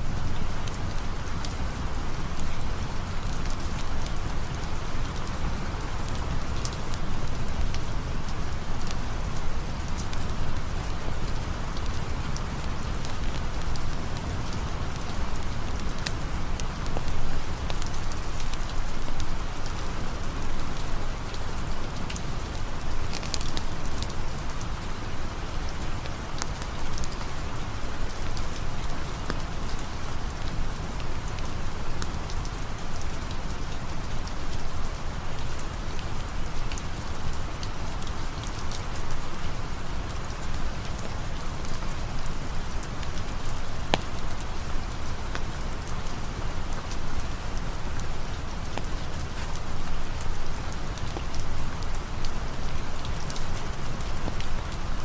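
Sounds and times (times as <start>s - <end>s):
rain hiss: 0.0s - 55.0s.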